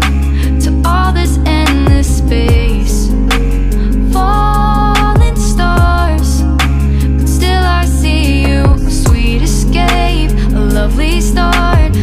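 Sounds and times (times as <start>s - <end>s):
pop music with electronic beat: 0.0s - 12.0s.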